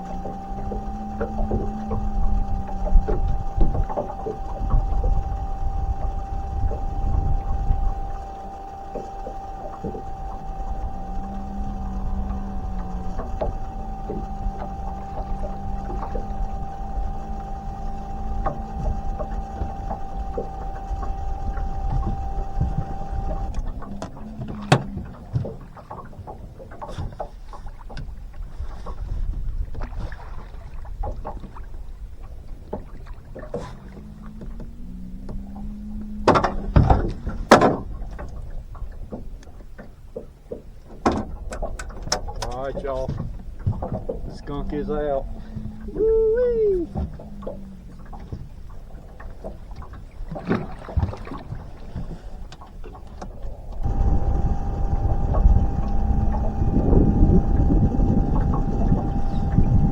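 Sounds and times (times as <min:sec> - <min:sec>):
boat motor humming: 0:00.0 - 0:59.9.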